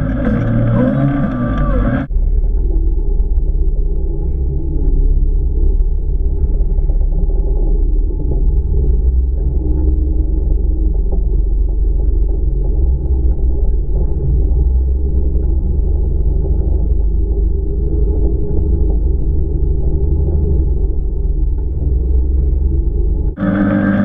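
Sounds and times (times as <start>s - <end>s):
off-road vehicle engine rumble: 0.0s - 24.0s.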